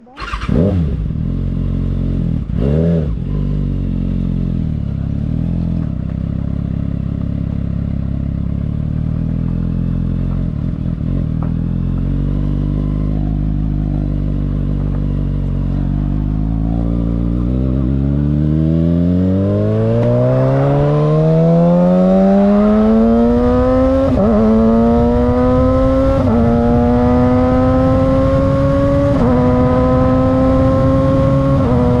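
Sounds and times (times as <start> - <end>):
motorcycle engine revving and idling: 0.0 - 32.0.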